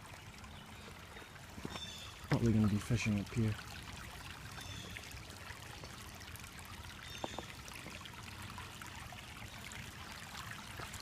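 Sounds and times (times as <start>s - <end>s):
creek water trickling: 0.0s - 11.0s.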